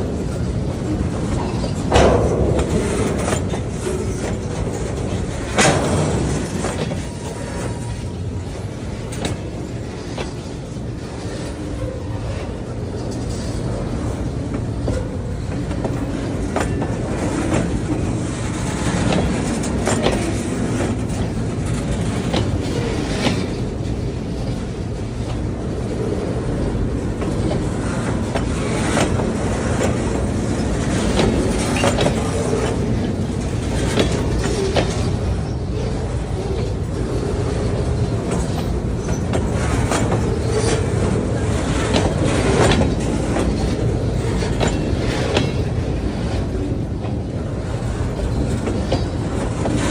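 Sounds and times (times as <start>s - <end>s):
train rumble: 0.0s - 49.9s
train wheels clicking over rail joints: 0.0s - 49.9s.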